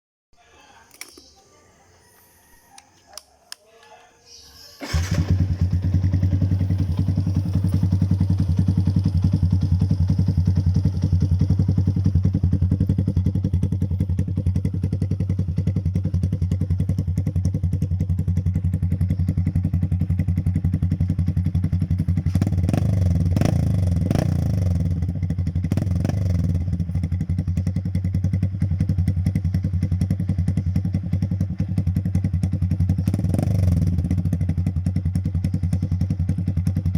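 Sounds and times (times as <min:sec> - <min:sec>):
motorcycle engine idling: 0:04.7 - 0:36.9
motorcycle engine revving: 0:04.8 - 0:36.9.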